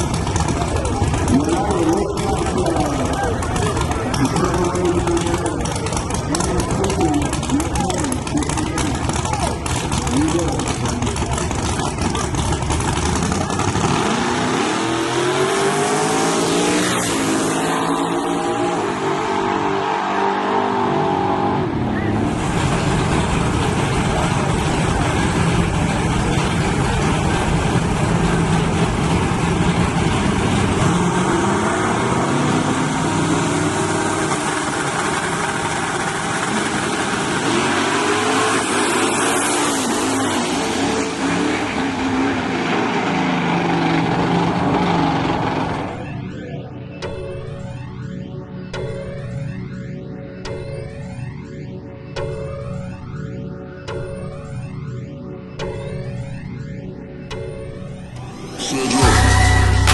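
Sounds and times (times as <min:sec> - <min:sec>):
truck engines revving at full throttle: 0:00.0 - 0:59.9.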